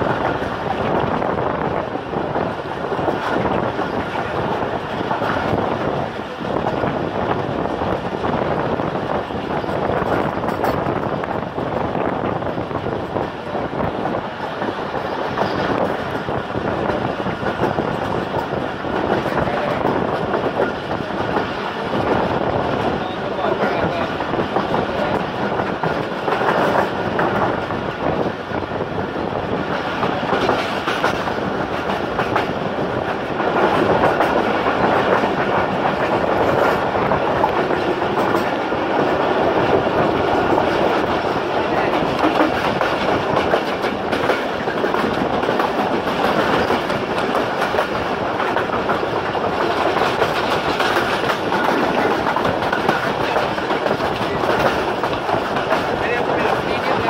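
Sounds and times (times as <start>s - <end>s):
clickety-clack over rail joints: 0.0s - 57.0s
train wheels rushing on rails: 0.0s - 57.0s.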